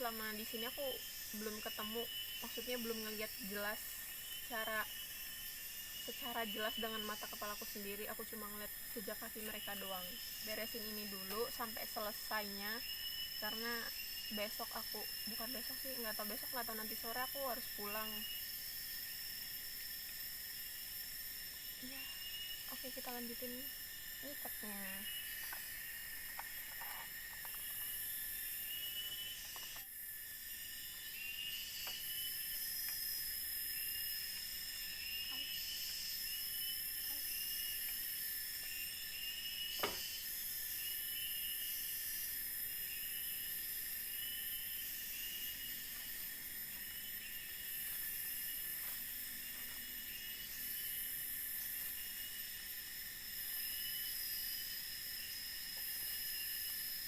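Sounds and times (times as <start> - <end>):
insects buzzing: 0.0 - 57.0
insects chirping trills: 0.0 - 57.0.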